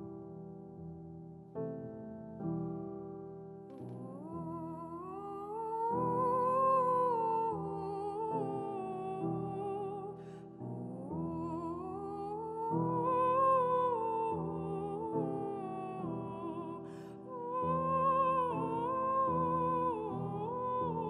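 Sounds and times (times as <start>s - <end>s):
sustained piano chords: 0.0s - 21.0s.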